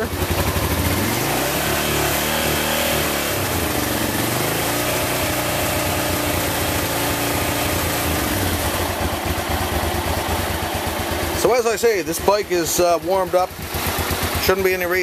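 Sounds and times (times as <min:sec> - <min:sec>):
motorcycle engine running unevenly: 0:00.0 - 0:15.0.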